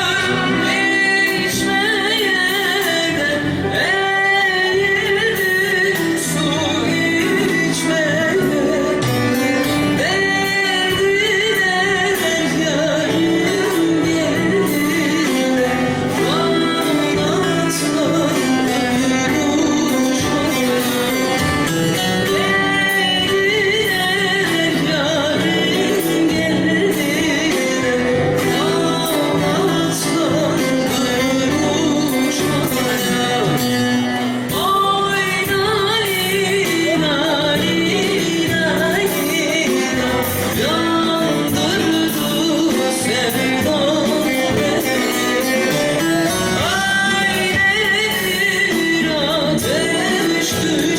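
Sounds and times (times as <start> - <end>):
instrumental accompaniment: 0.0 - 50.9
woman singing folk song: 0.0 - 50.9.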